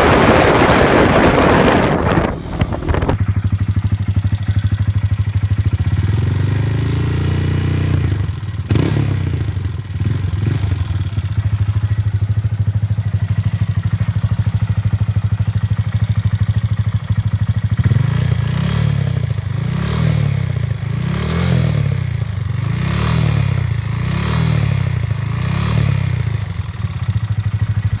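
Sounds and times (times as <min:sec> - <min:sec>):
motorcycle engine revving and idling: 0:00.0 - 0:28.0.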